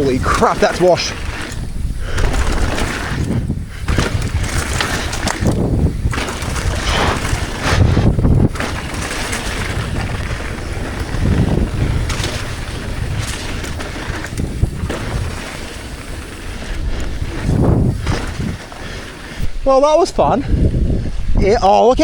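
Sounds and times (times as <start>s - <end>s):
tyres rumbling on wet trail: 0.0s - 22.0s
wind on camera microphone: 0.0s - 22.0s.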